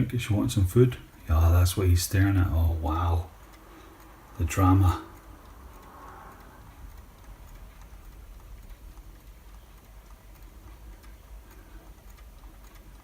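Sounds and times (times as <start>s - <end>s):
faint ticking: 0.0s - 13.0s.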